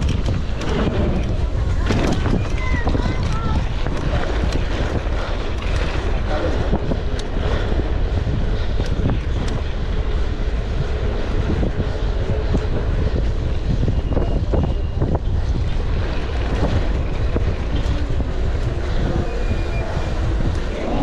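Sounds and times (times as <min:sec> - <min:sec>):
low rumbling noise: 0:00.0 - 0:21.0
wind buffeting microphone: 0:00.0 - 0:21.0.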